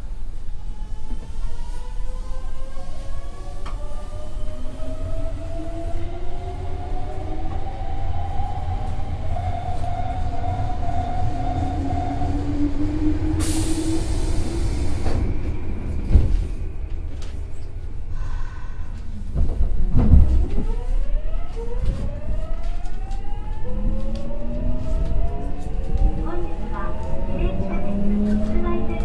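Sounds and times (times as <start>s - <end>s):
train low rumble: 0.0s - 29.0s.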